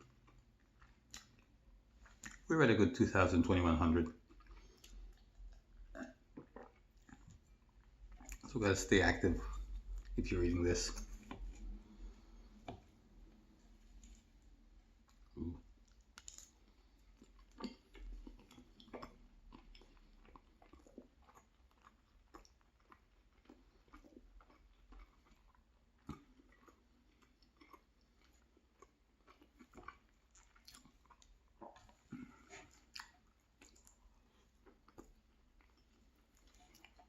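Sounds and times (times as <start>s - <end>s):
person chewing food: 0.0s - 2.5s, 4.0s - 37.0s.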